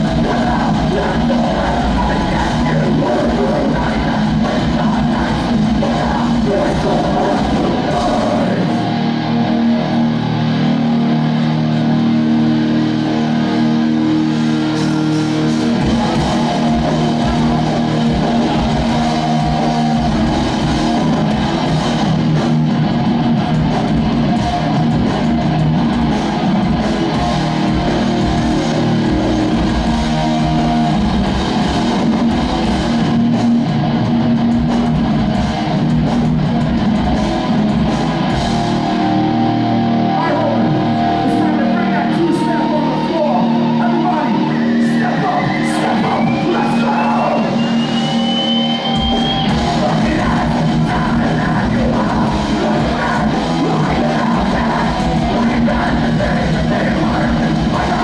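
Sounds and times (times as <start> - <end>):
bass guitar: 0.0 - 58.0
distorted electric guitars: 0.0 - 58.0
heavy low drums: 0.0 - 58.0.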